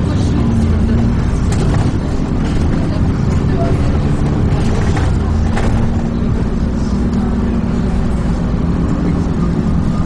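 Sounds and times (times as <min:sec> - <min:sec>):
bus engine droning: 0:00.0 - 0:10.0
road rumble: 0:00.0 - 0:10.0.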